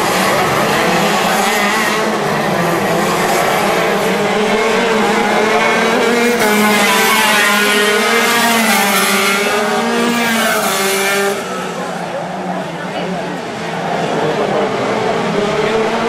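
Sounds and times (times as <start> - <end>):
kart engines at high revs: 0.0 - 16.0.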